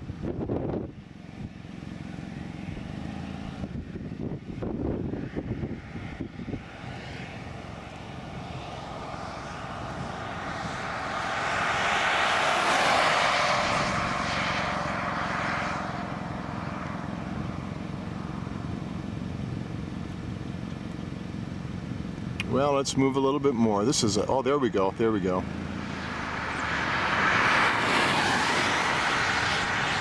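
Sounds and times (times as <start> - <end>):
steady low rumble: 0.0 - 30.0
vehicle passing by: 0.4 - 19.6, 23.2 - 30.0.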